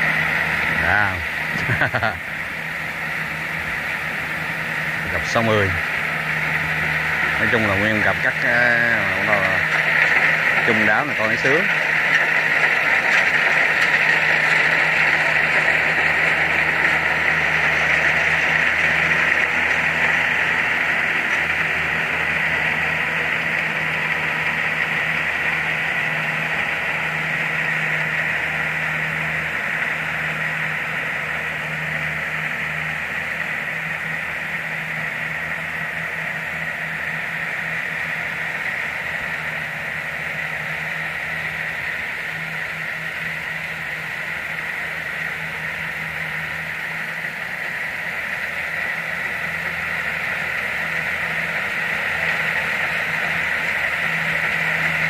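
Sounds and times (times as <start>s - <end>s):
combine harvester diesel drone: 0.0s - 55.0s.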